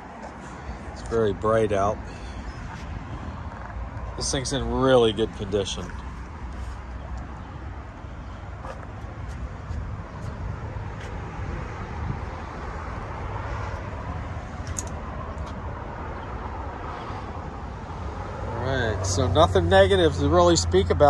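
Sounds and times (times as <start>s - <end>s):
passing road traffic: 0.0s - 21.0s.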